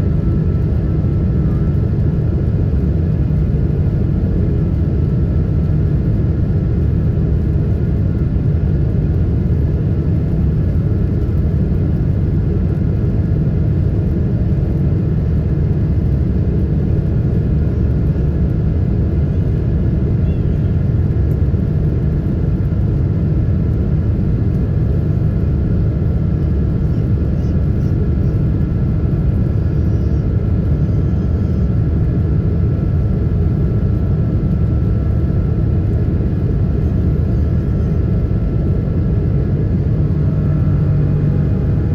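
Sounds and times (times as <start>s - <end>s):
aircraft cabin engine roar: 0.0s - 41.9s.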